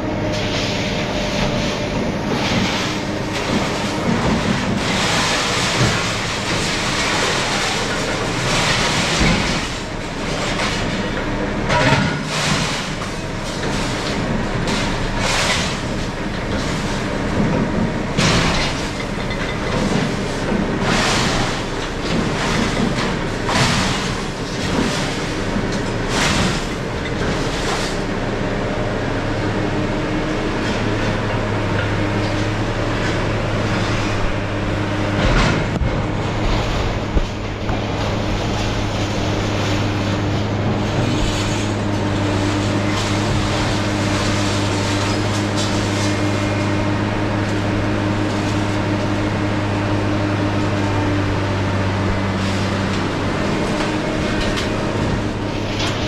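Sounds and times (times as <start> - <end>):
low engine hum: 0.0 - 56.0
scrap metal crashing into truck: 0.4 - 28.1, 30.6 - 49.1.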